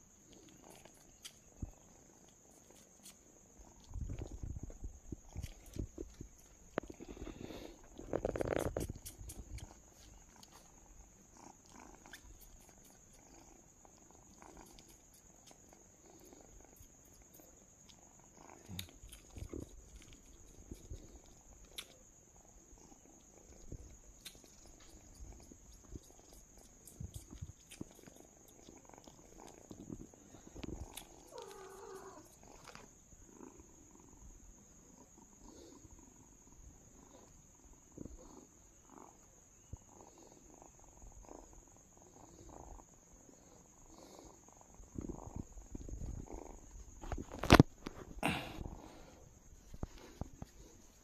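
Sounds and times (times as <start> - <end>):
kitten purring: 0.0 - 51.0.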